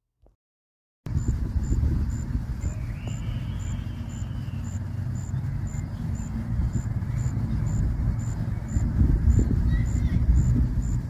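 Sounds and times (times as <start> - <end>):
steady low rumble: 1.1 - 11.0
cricket chirping: 1.2 - 11.0.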